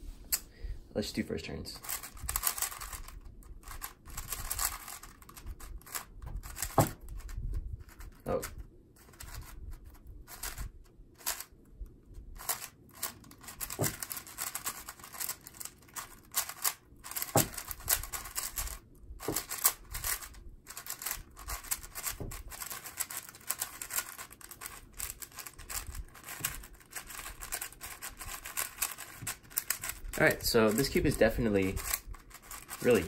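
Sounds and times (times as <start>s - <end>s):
puzzle cube plastic clicking: 1.8s - 9.5s, 12.4s - 33.0s.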